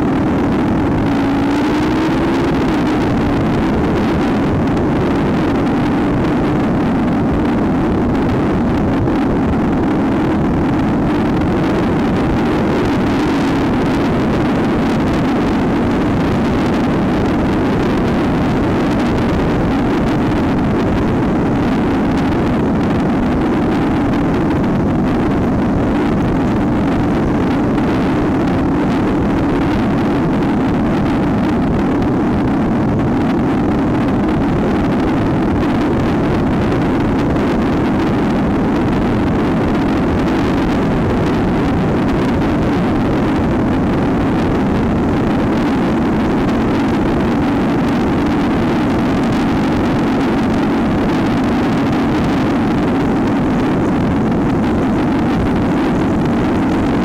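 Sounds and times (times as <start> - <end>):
dirt bike engine running: 0.0 - 57.0
wind on microphone: 0.0 - 57.0.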